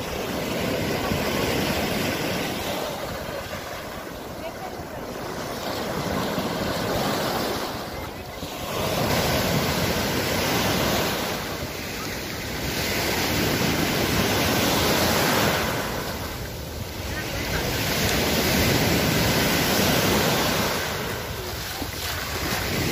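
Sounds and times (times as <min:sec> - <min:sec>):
small waves breaking on sand: 0:00.0 - 0:22.9.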